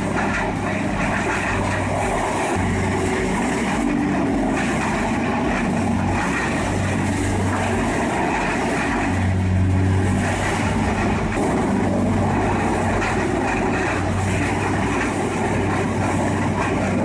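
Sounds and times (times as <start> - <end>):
tub grinder grinding stumps: 0.0 - 17.0.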